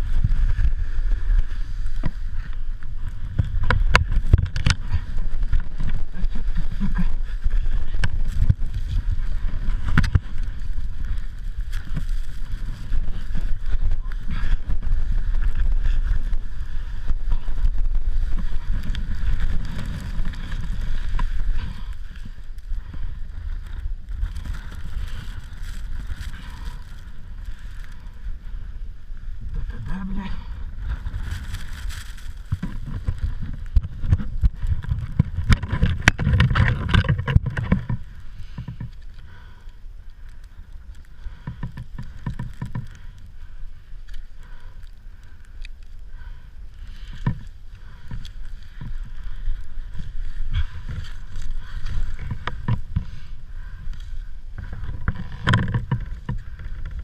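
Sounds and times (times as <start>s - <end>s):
gusty wind buffeting microphone: 0.0s - 57.0s.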